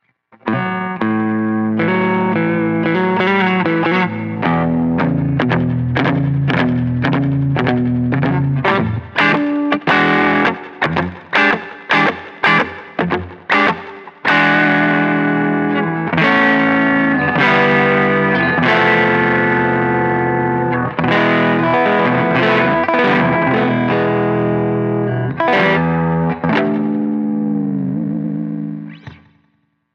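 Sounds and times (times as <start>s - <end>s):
distorted electric guitar chords: 0.0s - 29.5s.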